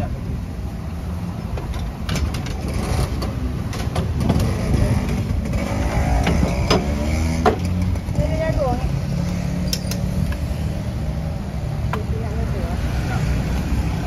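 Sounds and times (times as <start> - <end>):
low rumble of street noise: 0.0 - 14.0.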